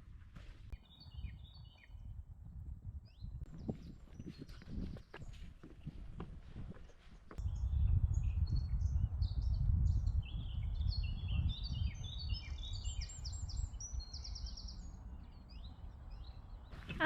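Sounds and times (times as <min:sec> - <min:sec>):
wind rumble on microphone: 0:00.0 - 0:17.0
small birds singing: 0:00.7 - 0:02.2, 0:03.0 - 0:06.0, 0:07.1 - 0:17.0.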